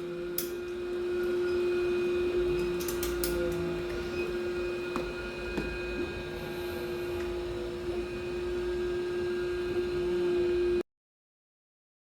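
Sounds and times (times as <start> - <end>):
suction motor humming: 0.0 - 10.8.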